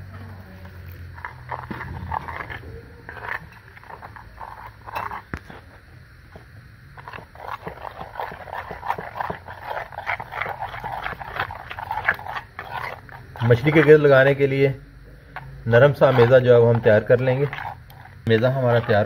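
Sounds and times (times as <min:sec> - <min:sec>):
batter squelching by hand: 0:00.2 - 0:19.0.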